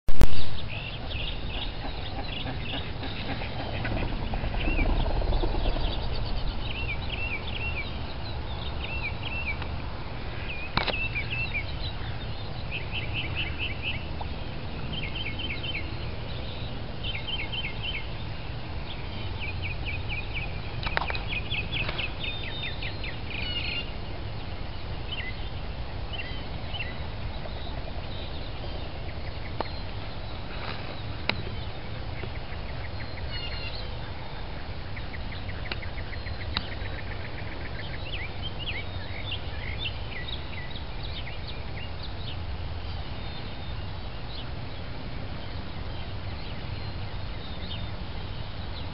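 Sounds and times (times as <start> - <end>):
low outdoor rumble: 0.1 - 48.9
birds chirping and calling: 0.3 - 48.9.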